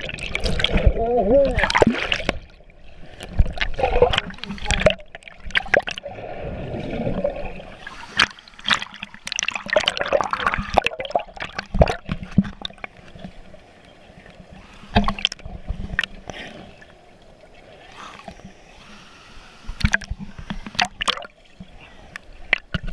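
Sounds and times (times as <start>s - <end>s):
water sloshing and splashing: 0.0s - 18.6s, 19.6s - 22.9s.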